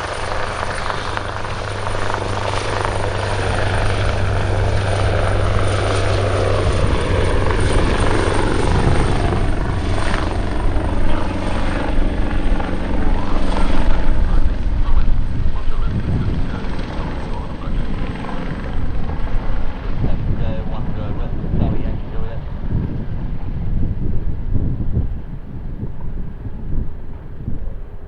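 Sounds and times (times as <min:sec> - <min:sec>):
helicopter rotor hum: 0:00.0 - 0:28.0
turbine whine: 0:00.0 - 0:28.0.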